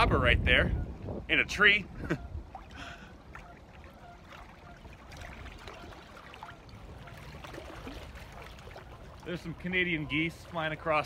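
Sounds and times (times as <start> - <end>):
lake water lapping: 0.7 - 11.0.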